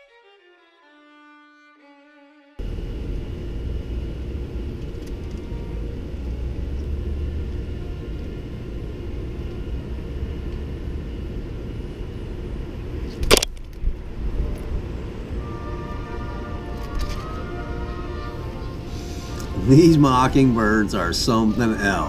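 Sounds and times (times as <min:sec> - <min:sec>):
steady low rumble: 0:02.6 - 0:22.0.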